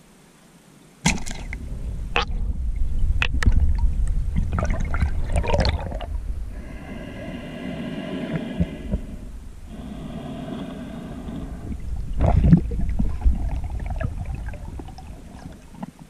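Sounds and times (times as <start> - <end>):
steady hum with even tones: 0.0 - 16.0
underwater water sloshing: 1.1 - 16.0.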